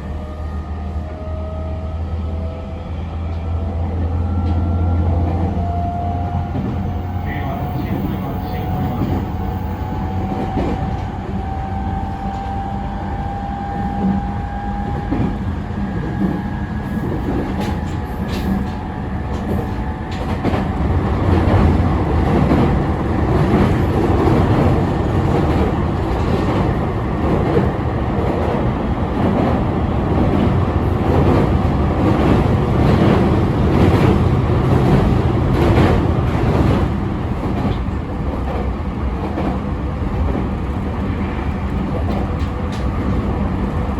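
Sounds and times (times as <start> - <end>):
train rolling noise: 0.0 - 43.9.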